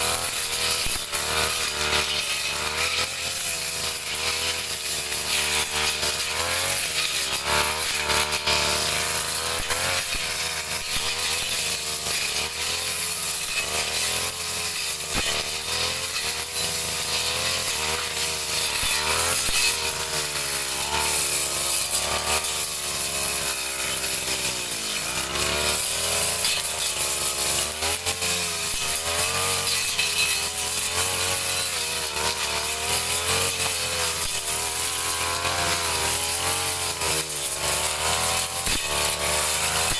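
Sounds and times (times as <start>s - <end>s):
brush cutter engine cutting grass: 0.0s - 39.9s.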